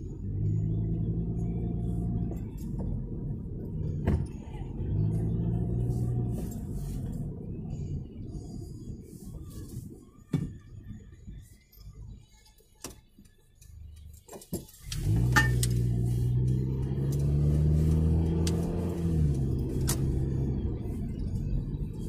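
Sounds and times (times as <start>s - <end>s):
car engine running: 0.0s - 12.3s, 14.8s - 22.0s.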